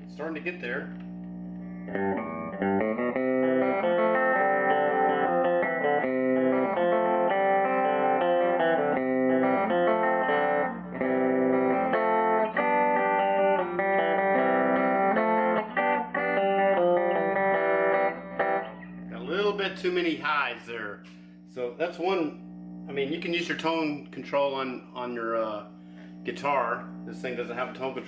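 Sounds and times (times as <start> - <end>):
electric guitar strumming chords: 0.0 - 28.0.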